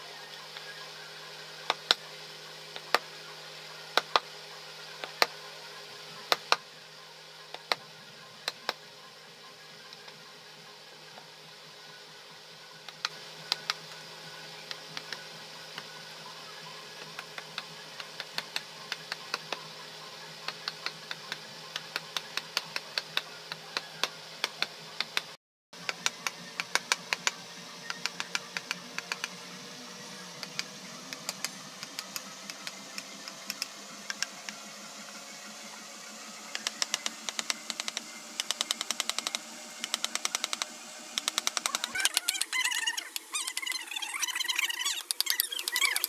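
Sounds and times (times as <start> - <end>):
steady hum: 0.0 - 46.0.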